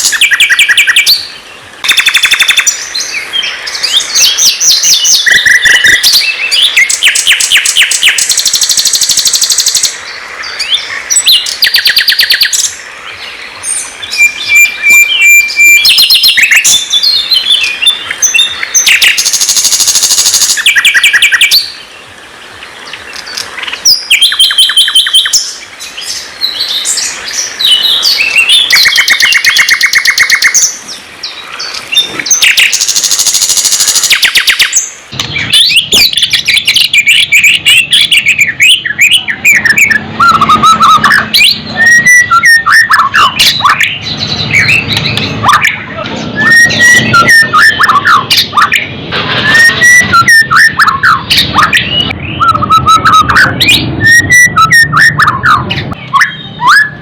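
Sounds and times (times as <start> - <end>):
bird whistled phrases: 0.0 - 2.8, 3.8 - 10.0, 10.6 - 12.8, 13.7 - 21.8, 23.8 - 25.6, 26.4 - 30.8, 31.9 - 57.0
songbirds trilling and chirping: 0.0 - 57.0.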